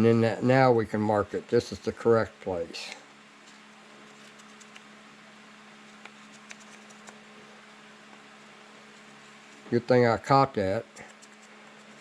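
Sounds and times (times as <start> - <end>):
faint hum of workshop equipment: 0.0 - 12.0.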